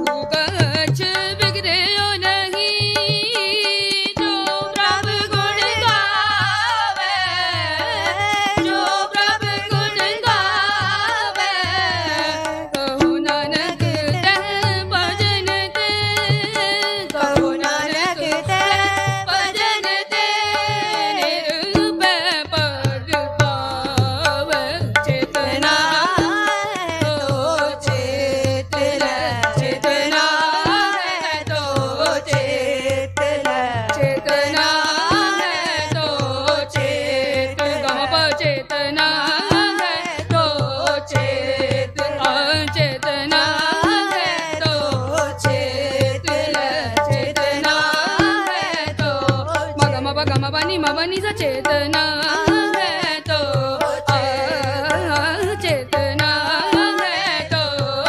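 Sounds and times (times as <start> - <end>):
harmonium chords: 0.0 - 58.0
tabla strokes: 0.0 - 58.0.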